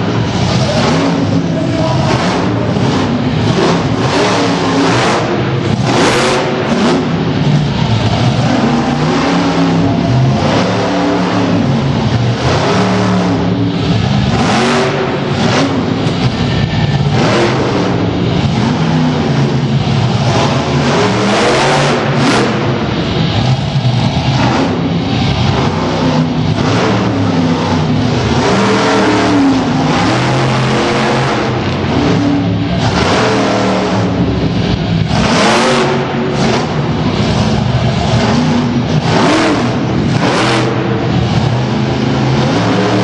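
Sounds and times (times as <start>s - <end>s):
truck engine revving: 0.0s - 43.0s.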